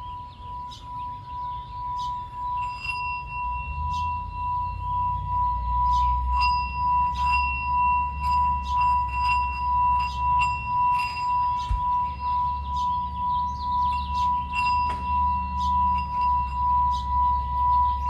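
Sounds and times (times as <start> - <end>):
singing bowl ringing: 0.0 - 18.0.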